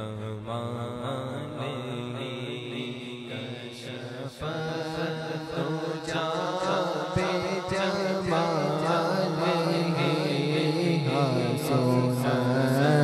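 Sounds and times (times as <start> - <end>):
hummed vocal drone: 0.0 - 13.0
man singing ornamented chant: 0.0 - 13.0.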